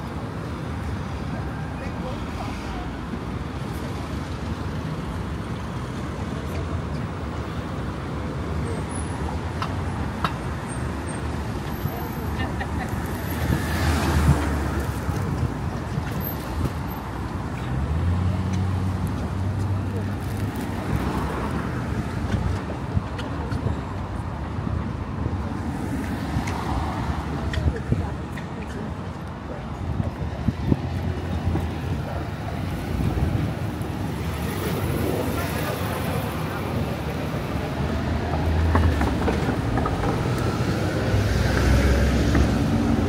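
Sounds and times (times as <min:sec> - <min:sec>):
city street traffic rumble: 0:00.0 - 0:43.0.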